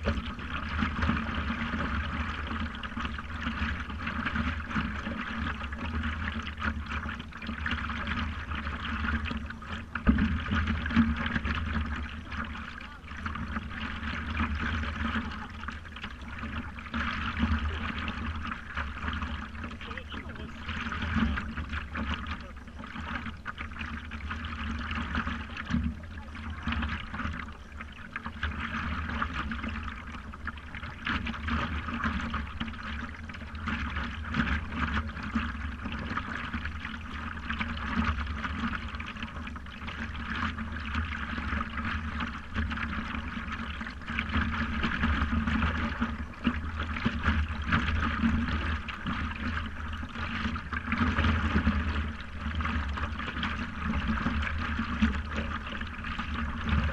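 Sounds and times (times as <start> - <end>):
water splashing against paddleboard: 0.0 - 56.9.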